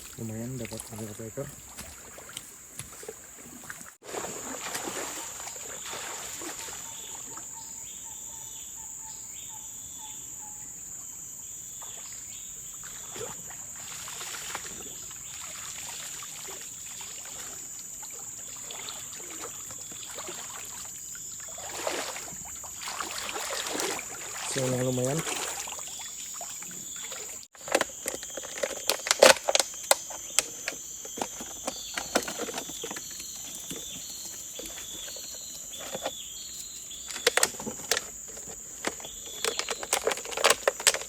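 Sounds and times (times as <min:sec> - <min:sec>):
water splashing and sloshing: 0:00.0 - 0:07.6, 0:11.8 - 0:41.0.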